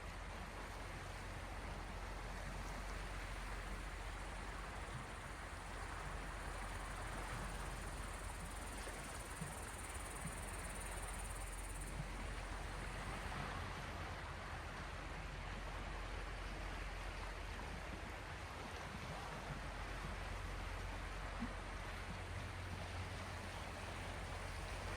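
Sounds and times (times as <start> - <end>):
small waves washing on shore: 0.0 - 24.9.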